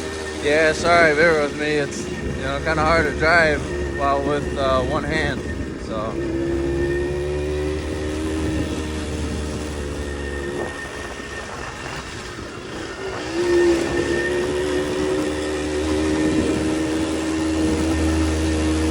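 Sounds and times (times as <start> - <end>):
two-stroke motorcycle engine: 0.0 - 18.9.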